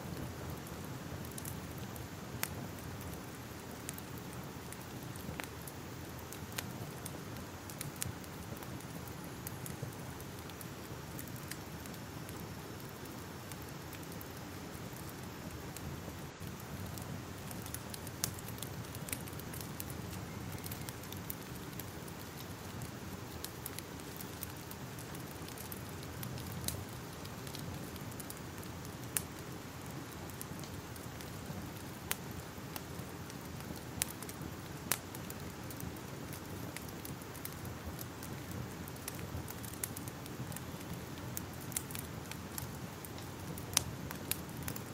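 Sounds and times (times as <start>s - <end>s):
fire crackling: 0.0s - 44.9s
sharp pops of fire: 0.1s - 44.9s.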